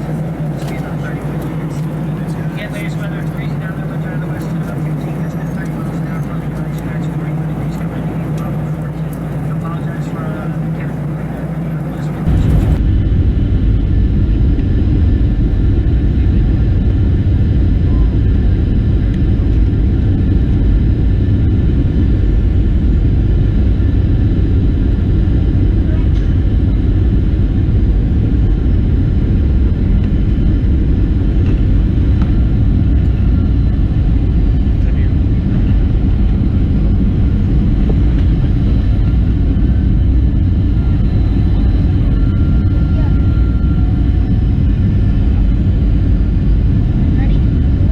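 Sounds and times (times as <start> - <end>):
airplane cabin rumble in flight: 0.0 - 47.9.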